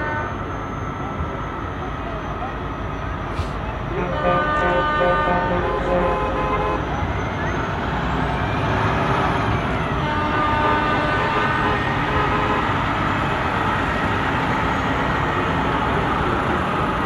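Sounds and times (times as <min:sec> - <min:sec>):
tyres on the road: 0:00.0 - 0:17.0.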